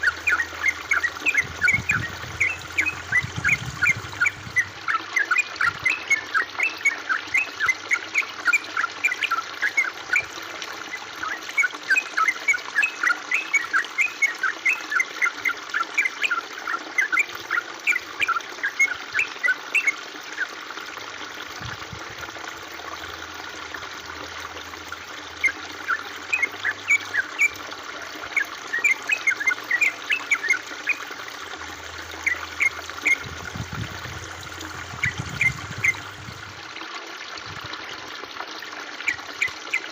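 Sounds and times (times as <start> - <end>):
high bubbling plinks: 0.0 - 20.0, 21.5 - 36.8
water trickling: 0.0 - 39.9.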